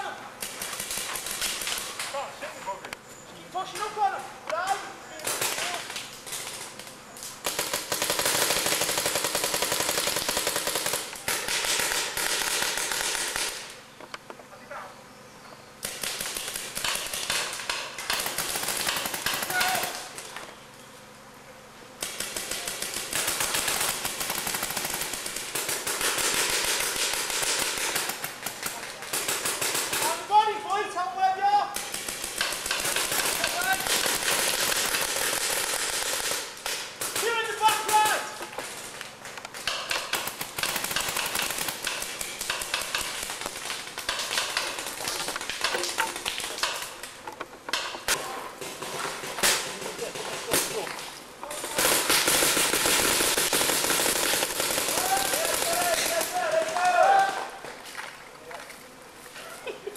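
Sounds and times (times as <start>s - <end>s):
paintball markers firing: 3.7s - 14.3s, 15.8s - 20.4s, 22.0s - 30.3s, 31.8s - 57.7s.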